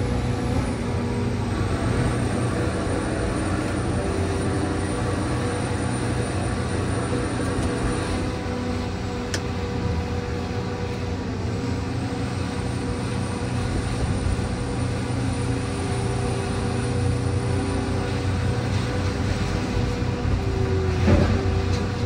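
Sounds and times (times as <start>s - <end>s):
diesel engine and hydraulics: 0.0s - 22.0s.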